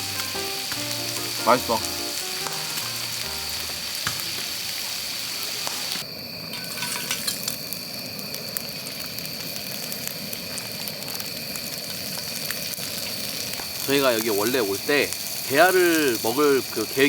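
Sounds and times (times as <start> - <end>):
food sizzling on grill pan: 0.0 - 17.0.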